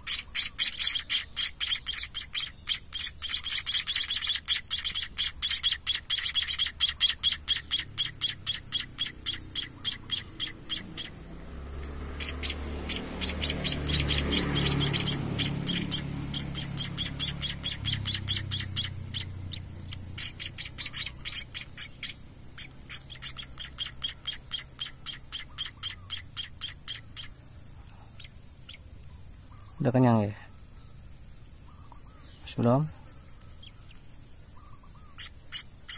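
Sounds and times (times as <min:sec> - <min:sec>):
nestlings begging chirps: 0:00.0 - 0:35.9.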